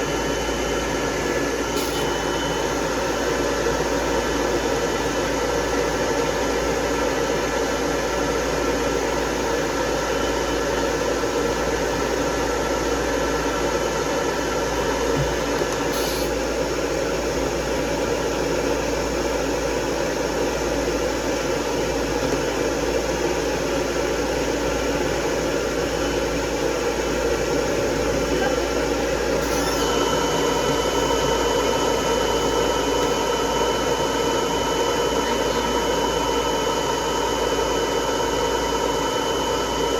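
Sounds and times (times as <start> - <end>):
blow dryer running: 0.0 - 39.9.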